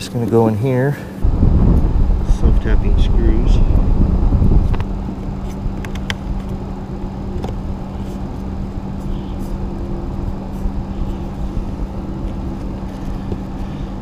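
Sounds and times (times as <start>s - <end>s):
constant rumbling background: 0.0s - 14.0s
steady low hum: 0.9s - 14.0s.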